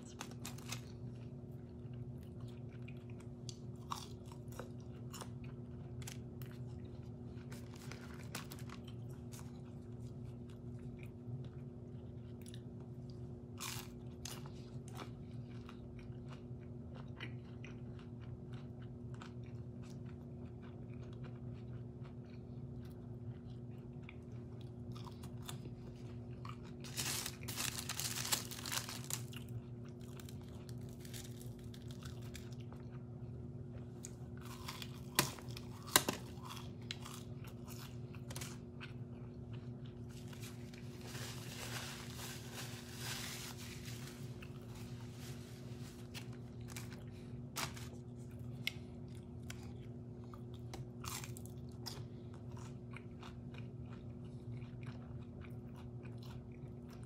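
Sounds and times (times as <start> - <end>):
chewing and crunching food: 0.0 - 57.0
steady low hum: 0.0 - 57.0.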